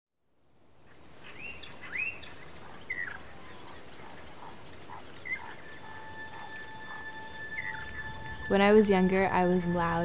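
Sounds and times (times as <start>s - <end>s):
birds chirping: 0.9s - 10.0s.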